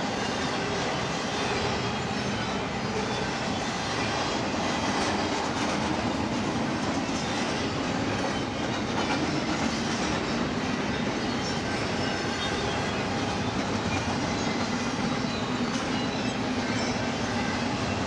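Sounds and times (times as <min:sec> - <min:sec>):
freight train cars rolling past: 0:00.0 - 0:18.0.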